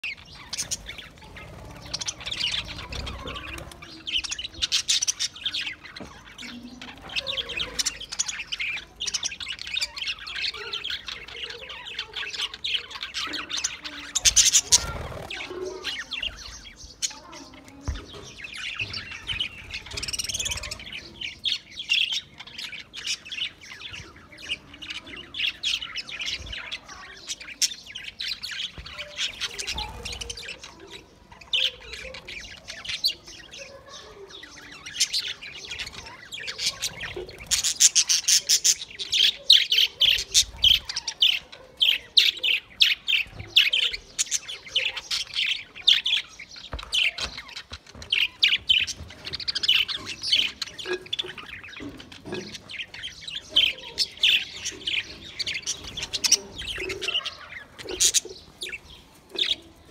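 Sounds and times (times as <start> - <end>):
budgerigars chirping and chattering: 0.0 - 59.9.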